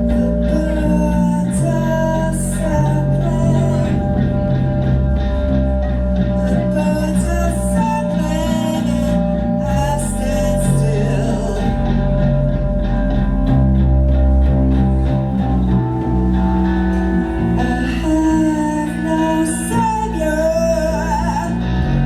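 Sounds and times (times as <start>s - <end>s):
person singing: 0.0s - 13.1s, 14.8s - 22.0s
bass guitar: 0.0s - 22.0s
guitar: 0.0s - 22.0s.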